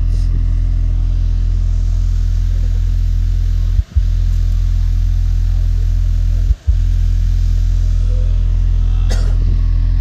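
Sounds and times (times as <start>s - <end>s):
deep bass drone from subwoofers: 0.0s - 10.0s.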